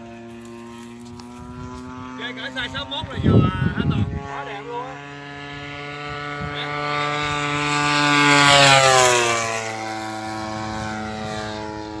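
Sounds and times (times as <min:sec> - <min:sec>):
model airplane flying past: 0:00.0 - 0:12.0.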